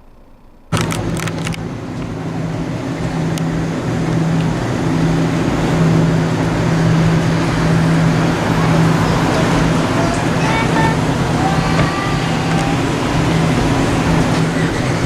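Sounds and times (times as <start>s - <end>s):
low drone: 0.0s - 15.0s
vehicle road noise rushing: 0.7s - 15.0s.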